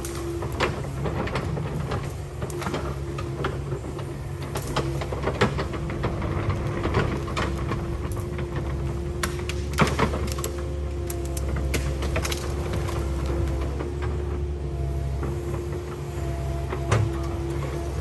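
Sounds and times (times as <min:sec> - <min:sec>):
excavator diesel engine running: 0:00.0 - 0:18.0
machine clanking and knocking: 0:00.0 - 0:18.0.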